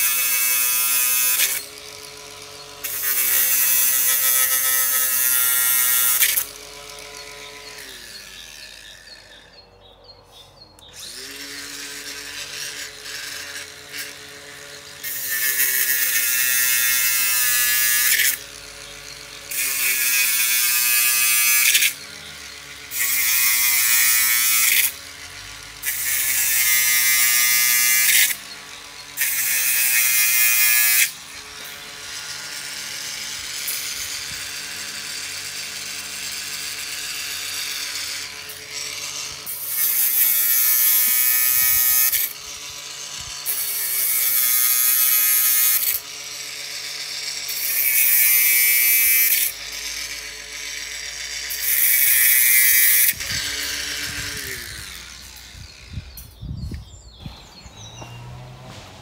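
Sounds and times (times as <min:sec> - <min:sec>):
power drill boring into ground: 0:00.0 - 0:09.6, 0:10.9 - 0:56.4.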